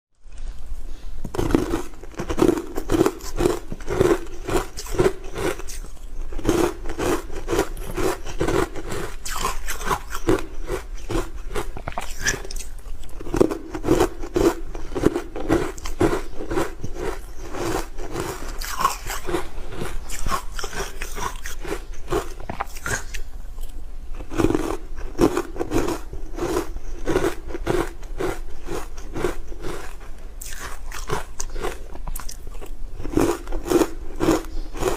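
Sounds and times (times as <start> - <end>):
ice crunching between teeth: 1.3 - 34.9.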